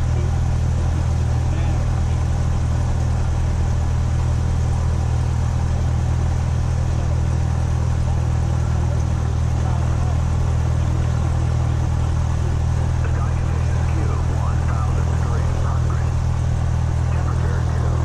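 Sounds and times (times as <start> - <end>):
plane engine idling drone: 0.0 - 18.0.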